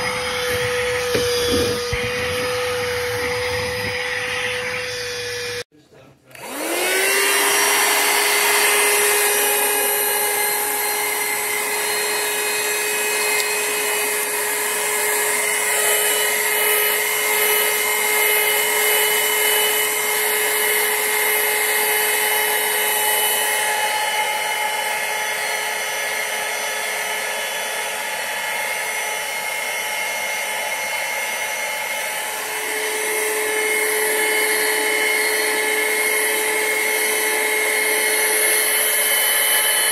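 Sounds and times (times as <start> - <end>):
handheld vacuum whining: 0.0 - 5.7, 6.3 - 39.9.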